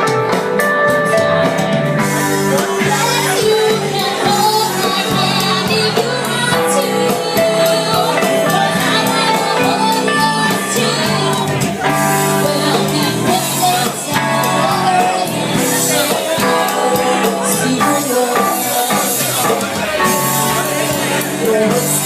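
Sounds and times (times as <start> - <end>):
live rock band playing: 0.0 - 22.0
voices singing: 2.0 - 22.0.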